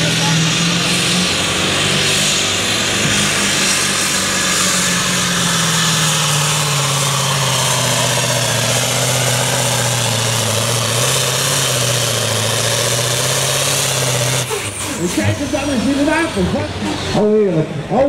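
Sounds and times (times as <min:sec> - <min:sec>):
diesel truck engine running hard: 0:00.0 - 0:18.0.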